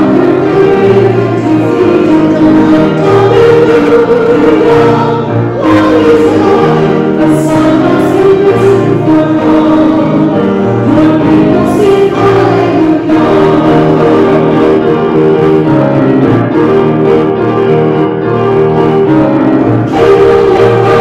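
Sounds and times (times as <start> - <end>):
keyboard accompaniment: 0.0 - 21.0
singers singing a hymn: 0.0 - 21.0.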